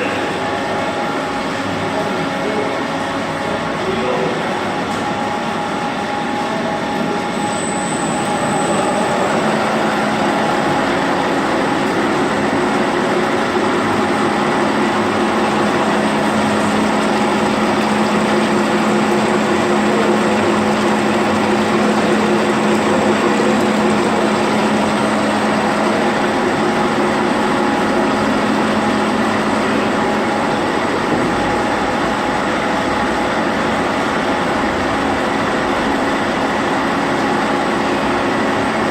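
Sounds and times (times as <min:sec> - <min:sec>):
steady hum: 0:00.0 - 0:38.9
cord-twisting machine running: 0:06.9 - 0:38.9.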